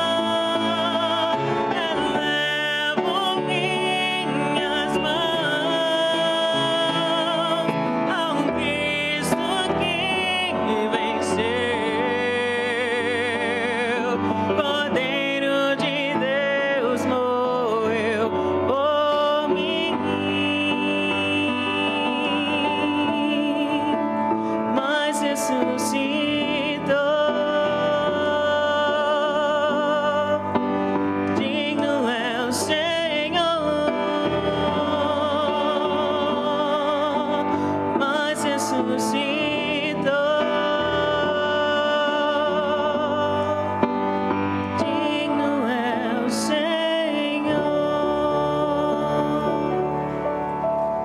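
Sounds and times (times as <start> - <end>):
woman singing with vibrato: 0.0 - 50.2
piano accompaniment: 0.0 - 51.0.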